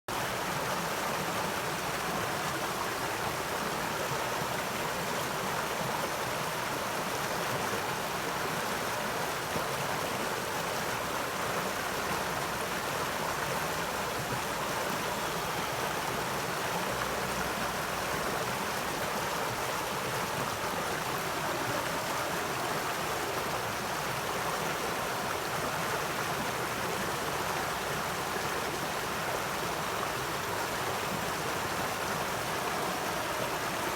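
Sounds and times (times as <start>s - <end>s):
stream flowing over rocks: 0.1s - 33.9s.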